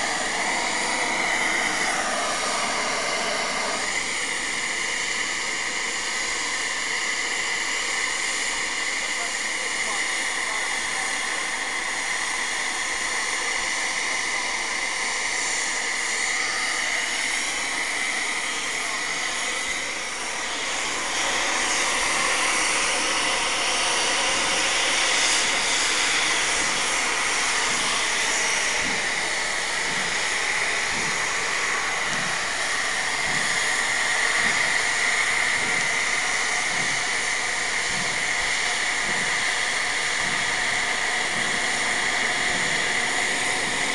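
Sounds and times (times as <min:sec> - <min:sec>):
steam locomotive hissing steam: 0:00.0 - 0:43.9.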